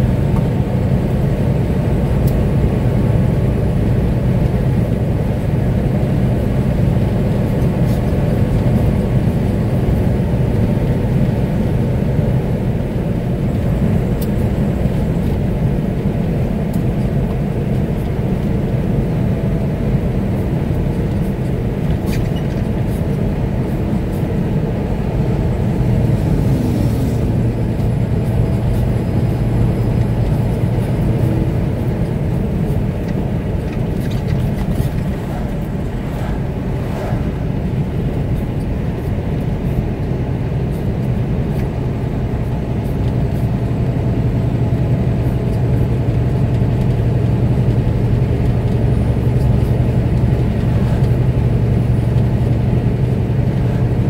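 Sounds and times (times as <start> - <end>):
vehicle driving rumble: 0.0 - 54.0.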